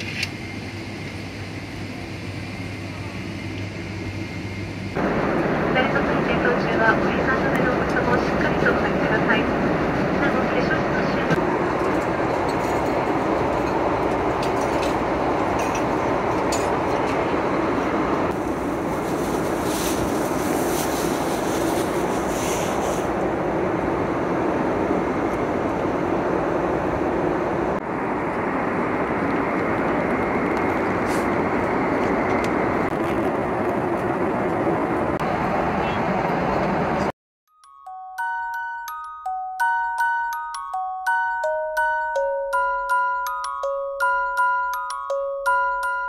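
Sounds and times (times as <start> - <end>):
airplane cabin engine noise: 0.0 - 37.1.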